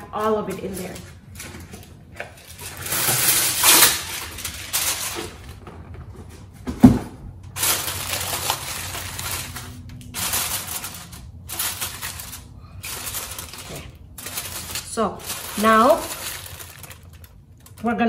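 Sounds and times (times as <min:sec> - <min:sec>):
aluminium foil crinkling: 0:00.2 - 0:05.7, 0:07.5 - 0:18.0.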